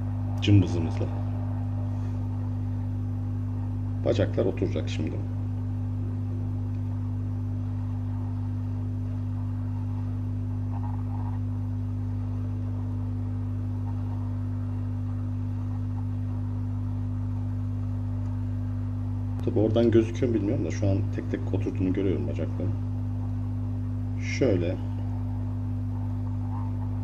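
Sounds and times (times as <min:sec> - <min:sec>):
hot air station humming: 0:00.0 - 0:27.0.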